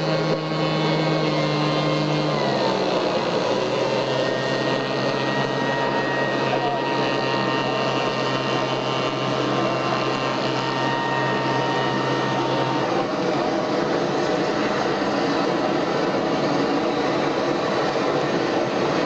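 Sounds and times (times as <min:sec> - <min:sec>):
hum and whine: 0:00.0 - 0:19.0
jet engine roaring: 0:00.0 - 0:19.0.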